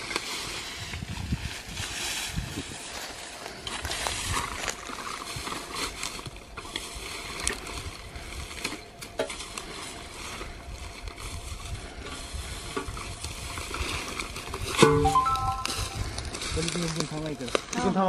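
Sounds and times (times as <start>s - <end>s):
dry straw rustling and crackling: 0.0s - 18.0s.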